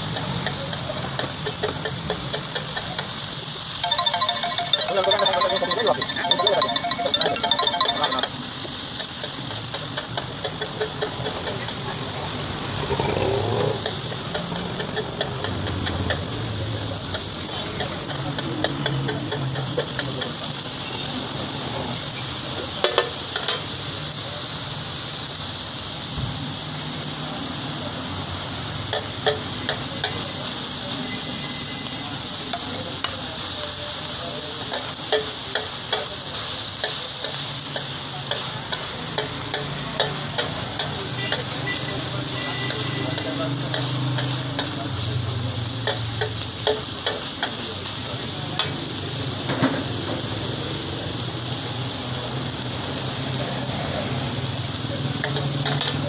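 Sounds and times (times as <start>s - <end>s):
meat sizzling on a griddle: 0.0s - 3.8s, 8.4s - 56.0s.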